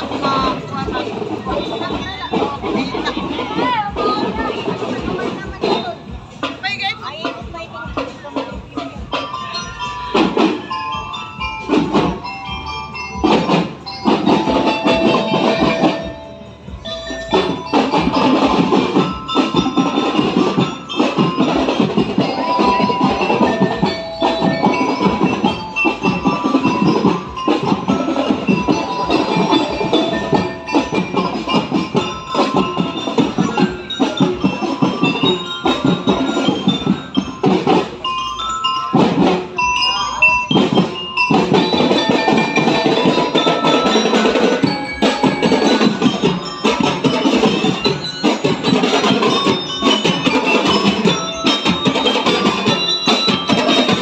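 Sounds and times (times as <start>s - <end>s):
bell lyres ringing melody: 0.0s - 54.0s
steady drum beat: 0.0s - 54.0s.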